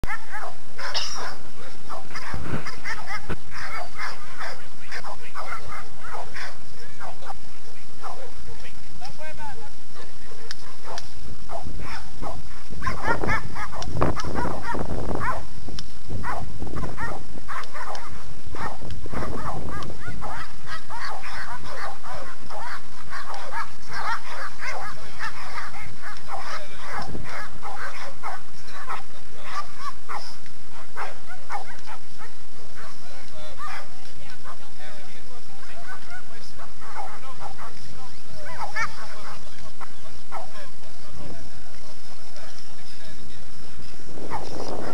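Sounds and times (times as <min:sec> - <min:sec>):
dogs barking: 0:00.0 - 0:08.4, 0:09.9 - 0:15.5, 0:16.2 - 0:34.7, 0:35.6 - 0:41.2, 0:44.2 - 0:44.9.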